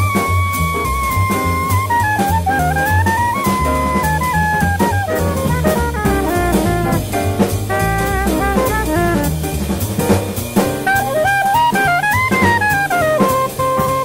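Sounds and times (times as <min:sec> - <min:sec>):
soprano saxophone: 0:00.0 - 0:09.3, 0:10.8 - 0:14.0
double bass: 0:00.0 - 0:14.0
drum kit with cymbal strokes: 0:00.0 - 0:14.0
piano: 0:00.0 - 0:14.0.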